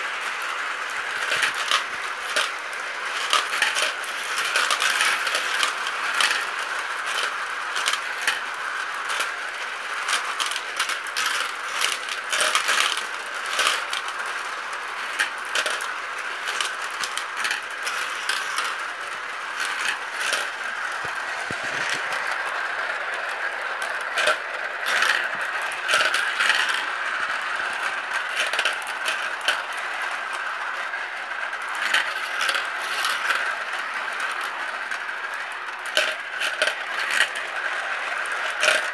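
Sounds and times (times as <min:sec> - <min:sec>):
marbles rolling in plastic funnels: 0:00.0 - 0:38.9
marbles clicking together: 0:00.4 - 0:14.4, 0:15.0 - 0:22.6, 0:23.4 - 0:30.4, 0:31.7 - 0:38.9.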